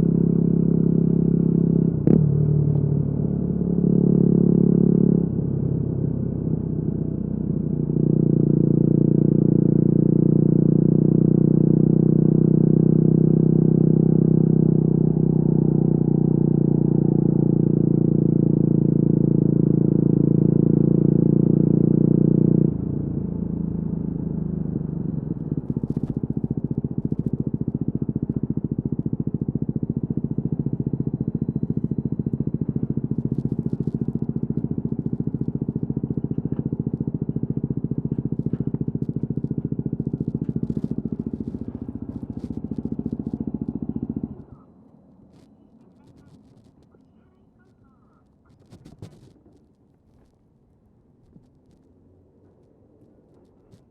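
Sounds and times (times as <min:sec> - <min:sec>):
motorcycle engine running: 0:00.0 - 0:44.7, 0:45.3 - 0:46.8, 0:48.5 - 0:49.7.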